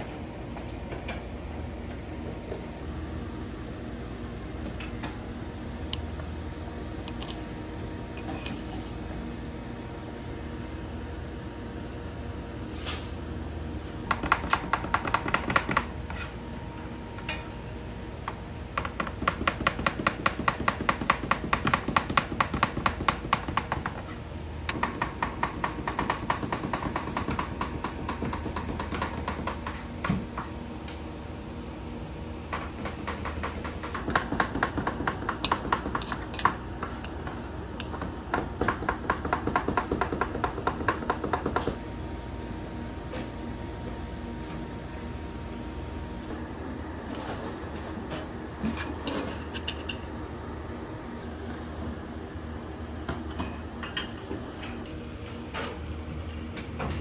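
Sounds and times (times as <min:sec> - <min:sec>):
kitchen background hum: 0:00.0 - 0:57.0.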